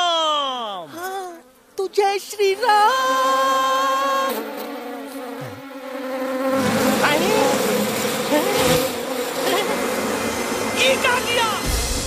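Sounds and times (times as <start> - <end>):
bees buzzing: 0.4 - 12.0.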